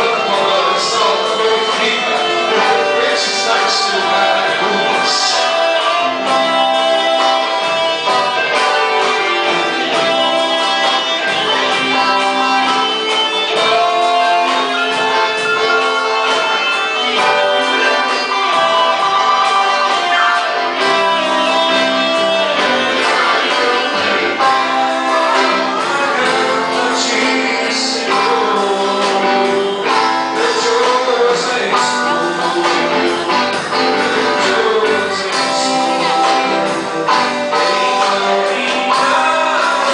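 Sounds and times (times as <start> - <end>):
person singing: 0.0 - 39.9
strummed guitar: 0.0 - 39.9.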